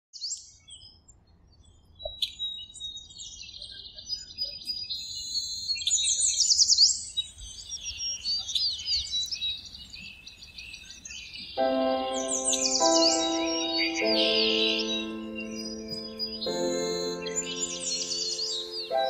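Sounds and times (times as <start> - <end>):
songbirds chirping and whistling: 0.2 - 19.0.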